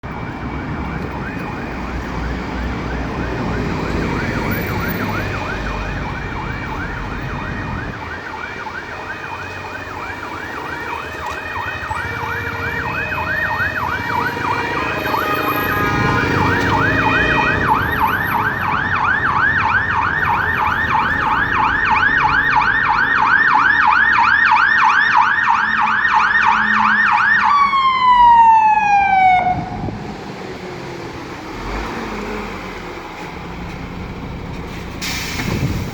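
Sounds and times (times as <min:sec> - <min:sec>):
fire engine siren yelp: 0:00.0 - 0:33.2.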